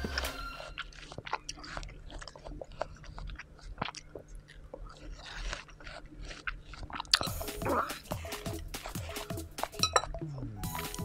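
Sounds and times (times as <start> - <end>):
person chewing fruit: 0.0 - 11.0.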